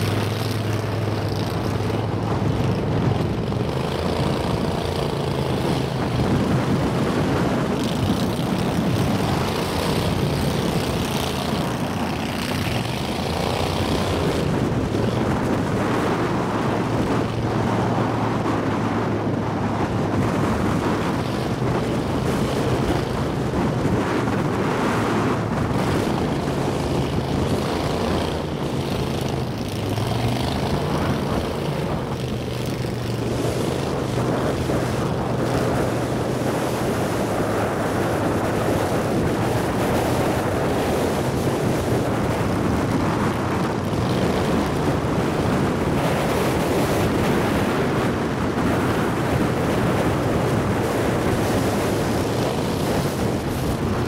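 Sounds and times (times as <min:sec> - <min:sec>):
outboard motor running: 0:00.0 - 0:54.0
wind buffeting microphone: 0:00.0 - 0:54.0
water rushing past hull: 0:05.6 - 0:54.0.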